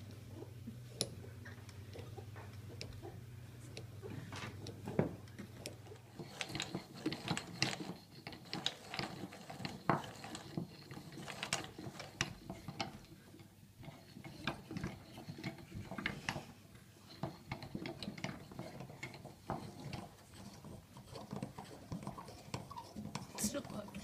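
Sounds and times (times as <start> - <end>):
wooden cams clicking and knocking: 3.8 - 24.0.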